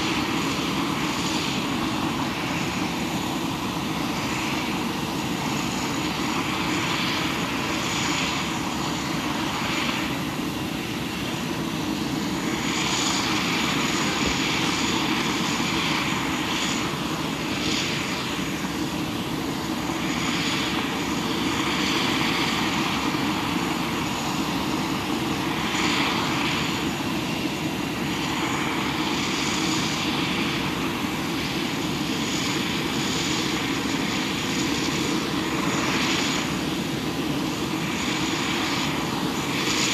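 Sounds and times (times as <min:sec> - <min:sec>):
high-pitched engine whine: 0:00.0 - 0:39.9
jet engine rushing noise: 0:00.0 - 0:39.9.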